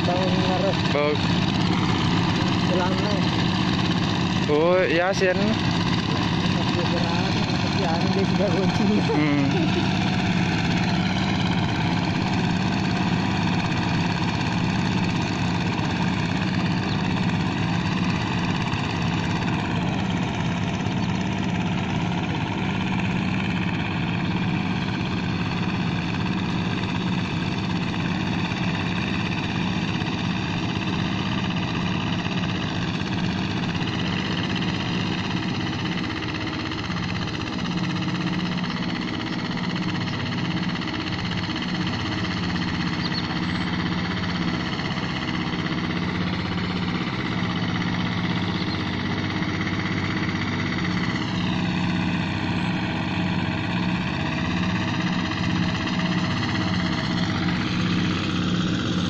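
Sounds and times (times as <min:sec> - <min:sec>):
hand tractor engine running: 0:00.0 - 0:59.0.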